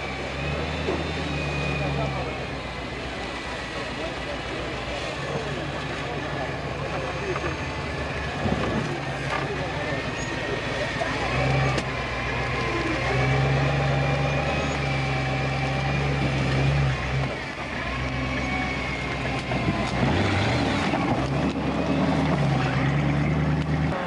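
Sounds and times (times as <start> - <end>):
off-road vehicle engine under load: 0.0 - 24.0.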